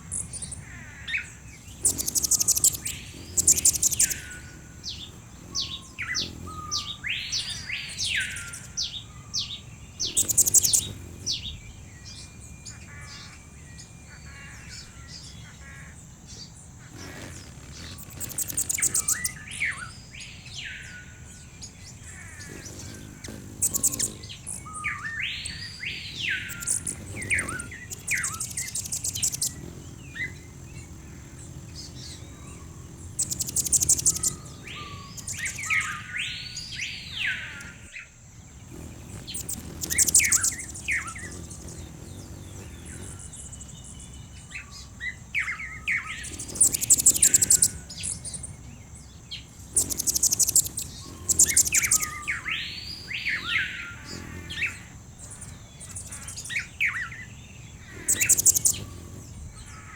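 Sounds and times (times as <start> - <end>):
high rapid bird trills: 0.0 - 59.9
songbirds whistling: 0.0 - 59.9
steady high-pitched hiss: 0.0 - 59.9.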